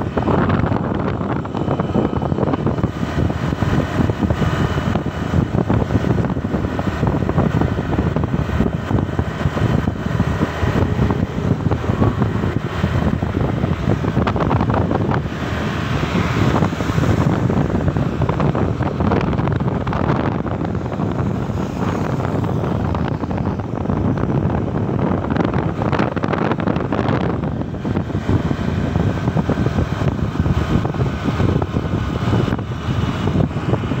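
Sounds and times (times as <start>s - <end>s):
car engine and road noise: 0.0s - 34.0s
wind rushing over microphone: 0.0s - 34.0s.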